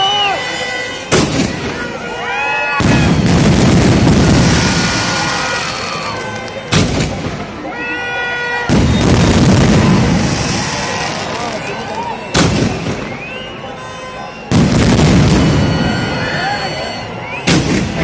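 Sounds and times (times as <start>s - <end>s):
fireworks crackling and bursting: 0.0s - 7.7s, 8.7s - 13.4s, 14.5s - 18.0s
firework bangs: 0.5s - 7.7s, 8.5s - 13.4s, 14.5s - 18.0s.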